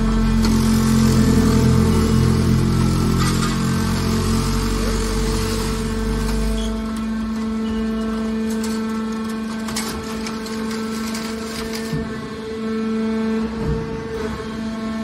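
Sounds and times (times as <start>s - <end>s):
baler motor and pump hum: 0.0s - 15.0s.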